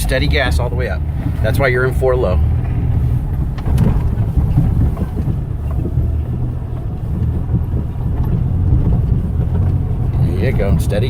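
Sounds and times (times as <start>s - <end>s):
off-road vehicle engine under load: 0.0s - 11.0s
wind noise on microphone: 0.0s - 11.0s.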